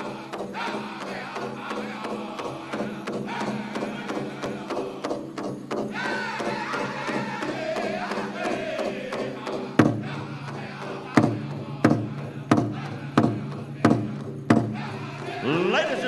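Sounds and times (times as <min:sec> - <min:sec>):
drum strikes: 0:00.0 - 0:16.0
group singing with wavering voices: 0:00.0 - 0:16.0.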